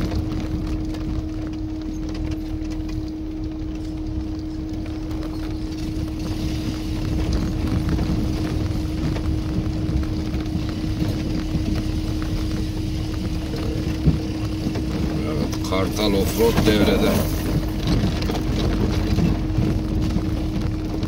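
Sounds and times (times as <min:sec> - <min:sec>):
car body rattles and knocks: 0:00.0 - 0:21.0
constant low hum: 0:00.0 - 0:21.0
engine and road rumble: 0:00.0 - 0:21.0.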